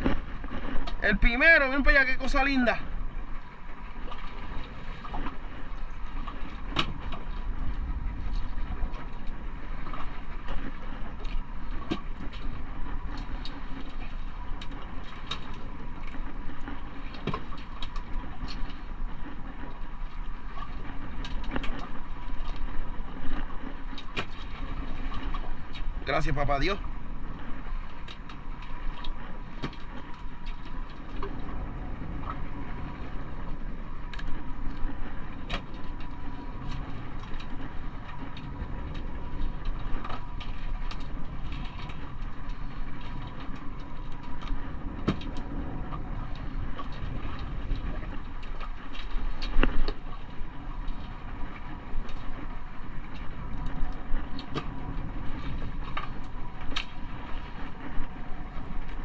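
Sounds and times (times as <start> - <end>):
boat motor rumbling: 0.0 - 59.0.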